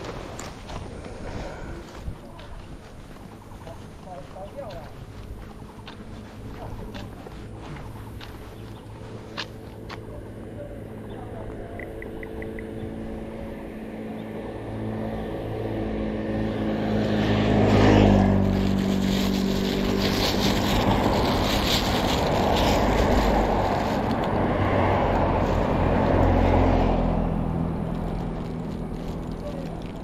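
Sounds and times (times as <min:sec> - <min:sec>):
vehicle engine passing: 0:00.0 - 0:30.0.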